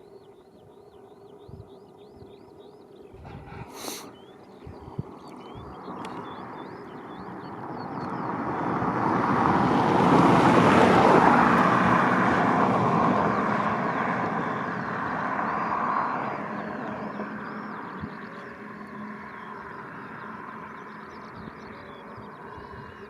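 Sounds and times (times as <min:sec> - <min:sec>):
vehicle passing by: 0:03.2 - 0:23.0.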